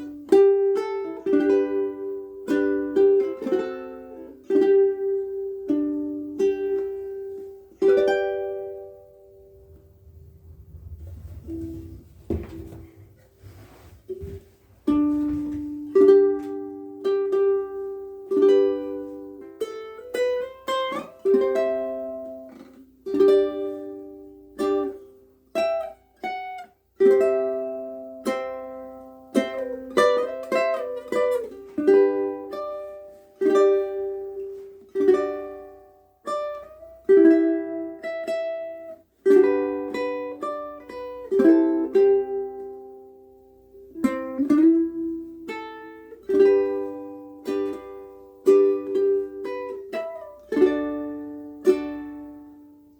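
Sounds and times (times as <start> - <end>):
ukulele melody: 0.0 - 52.9.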